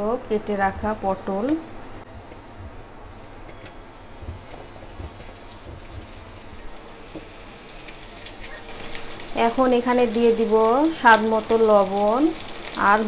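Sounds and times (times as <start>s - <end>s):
vegetables sizzling in oil: 0.7s - 13.0s.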